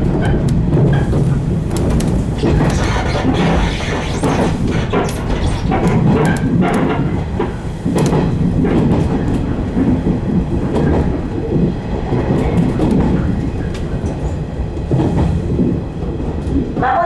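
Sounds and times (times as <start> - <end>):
rail joint clicks: 0.0 - 17.0
train wheels rumbling on rails: 0.0 - 17.0.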